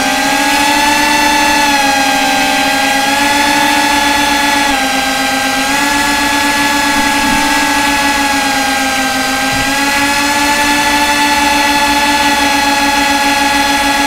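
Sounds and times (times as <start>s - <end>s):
drone motors whining: 0.3s - 14.0s.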